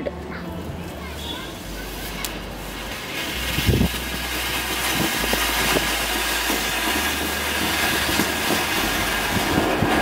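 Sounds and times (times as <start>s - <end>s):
firework fountain hissing: 0.6s - 10.0s.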